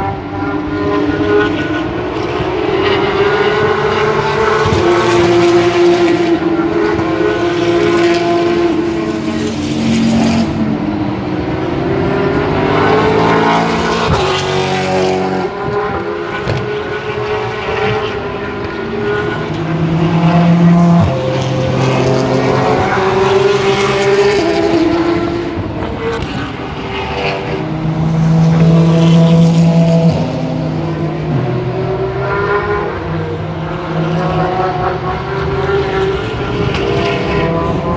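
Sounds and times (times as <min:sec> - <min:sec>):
din of cars on circuit: 0:00.0 - 0:37.9
race car engines passing: 0:00.0 - 0:37.9.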